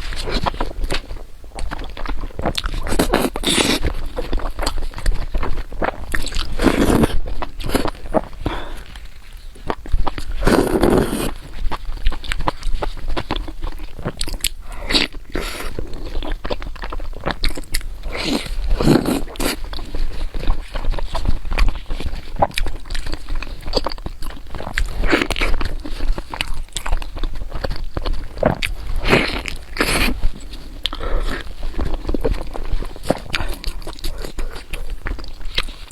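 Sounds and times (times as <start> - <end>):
person chewing and crunching: 0.0 - 35.9.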